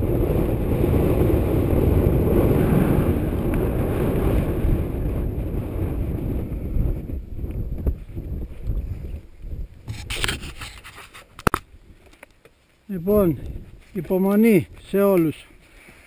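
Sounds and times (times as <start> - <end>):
wind buffeting microphone: 0.0 - 12.1, 12.9 - 15.6.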